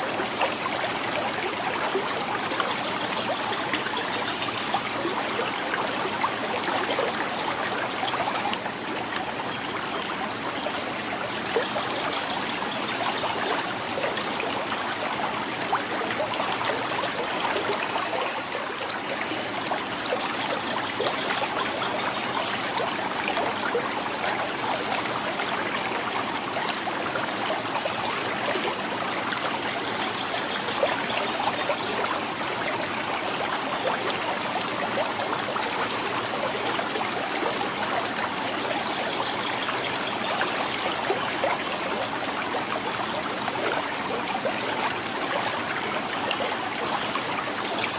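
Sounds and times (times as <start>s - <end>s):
river water gurgling: 0.0s - 47.9s
small splashes and trickles: 0.0s - 47.9s.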